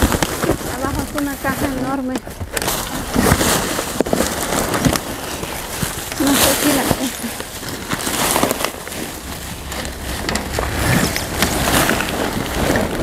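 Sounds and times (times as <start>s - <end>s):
rummaging through trash: 0.0s - 13.0s.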